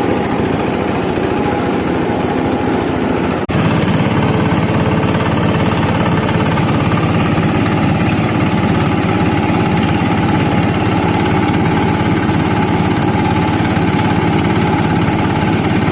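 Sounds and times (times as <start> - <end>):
grinding machine rattling: 0.0 - 15.9.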